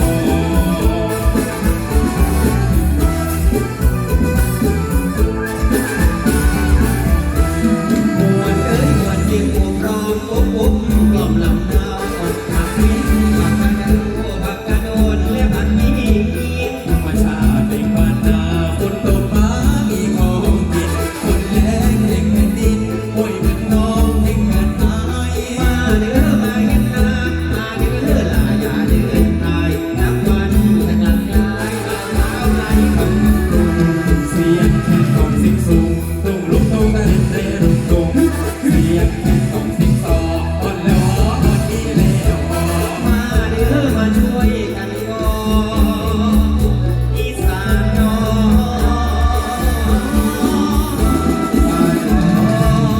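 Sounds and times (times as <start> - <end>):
live band music with driving beat: 0.0 - 52.9.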